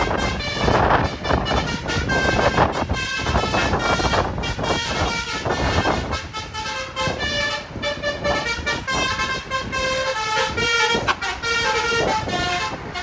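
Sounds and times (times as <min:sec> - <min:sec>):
road traffic noise: 0:00.0 - 0:13.0
vehicle horns honking: 0:00.0 - 0:13.0.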